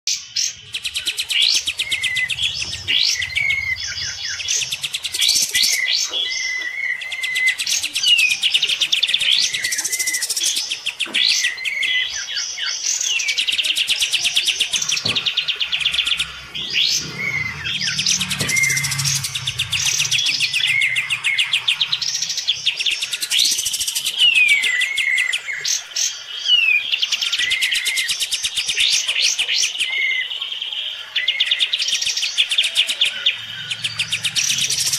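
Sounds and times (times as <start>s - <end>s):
birds chattering song: 0.1s - 34.9s.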